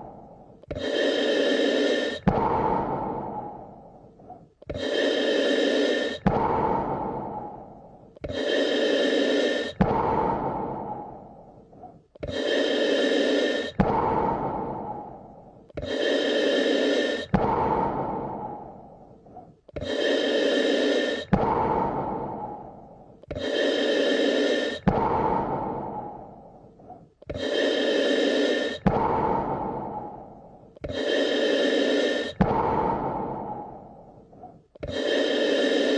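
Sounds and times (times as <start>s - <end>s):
person breathing deeply: 0.0s - 35.9s.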